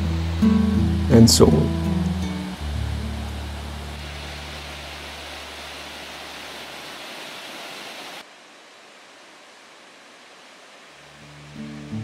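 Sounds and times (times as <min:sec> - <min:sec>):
stream rushing over rocks: 0:00.0 - 0:12.0
waterfall rushing: 0:00.0 - 0:12.0.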